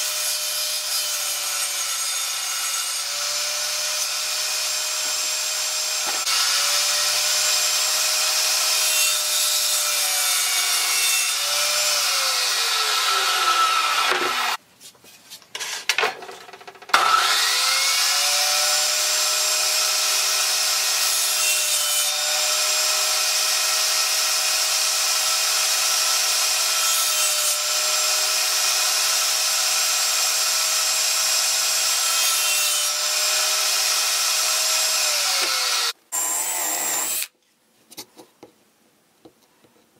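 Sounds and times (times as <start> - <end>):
table saw cutting plywood: 0.0 - 14.6, 17.0 - 37.3.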